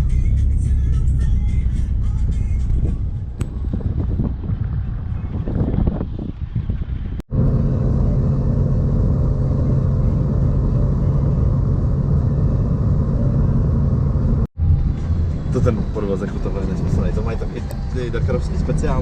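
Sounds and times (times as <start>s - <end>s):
car engine droning: 0.0s - 19.0s
road rumble: 0.0s - 19.0s.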